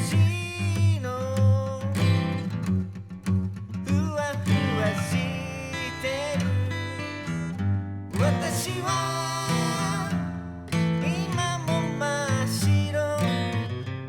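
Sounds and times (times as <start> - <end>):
song with acoustic guitar: 0.0 - 14.0.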